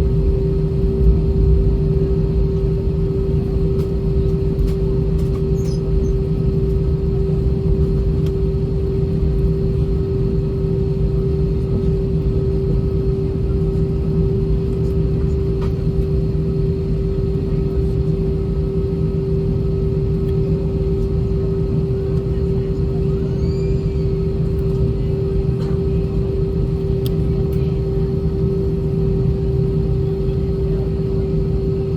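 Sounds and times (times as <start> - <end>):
aircraft cabin rumble: 0.0 - 31.9.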